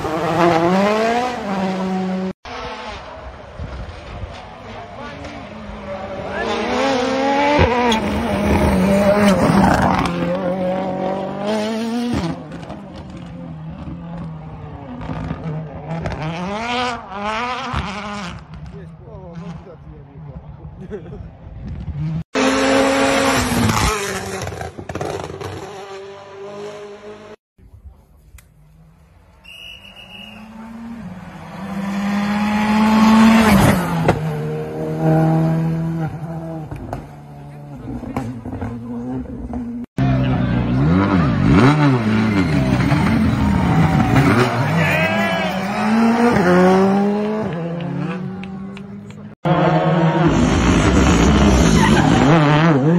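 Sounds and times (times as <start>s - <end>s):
rally car engine at high revs: 0.0s - 27.4s, 30.4s - 52.9s.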